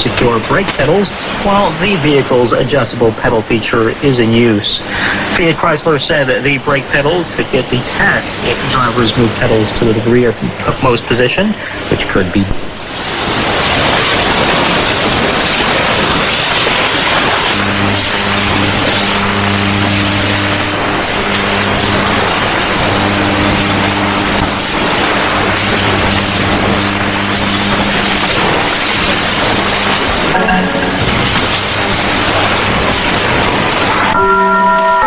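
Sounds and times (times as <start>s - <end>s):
low hum with overtones: 0.0s - 13.4s, 14.8s - 35.0s
radio static hiss: 0.0s - 34.2s.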